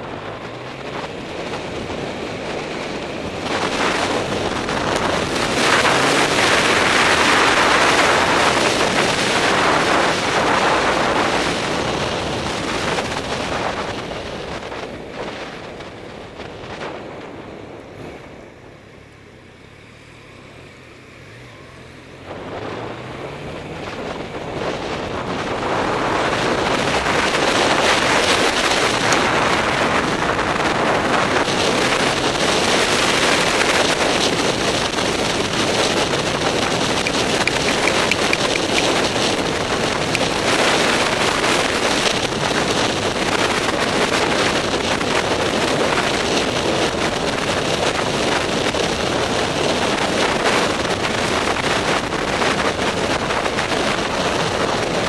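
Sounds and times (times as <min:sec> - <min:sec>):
heavy wind noise on microphone: 0:00.0 - 0:19.0, 0:20.6 - 0:55.0.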